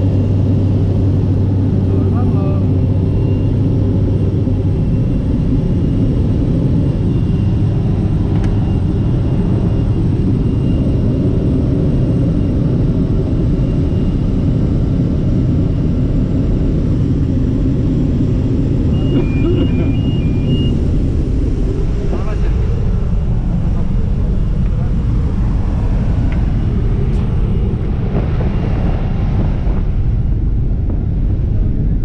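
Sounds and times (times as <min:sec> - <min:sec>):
plane engine and propeller drone: 0:00.0 - 0:32.0
thin steady whine: 0:00.0 - 0:32.0.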